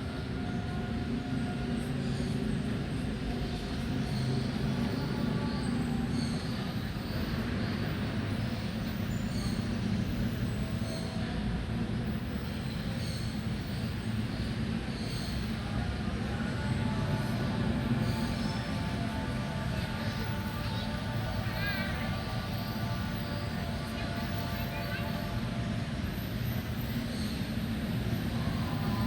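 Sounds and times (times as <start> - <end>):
low rumble of distant traffic: 0.0 - 29.0.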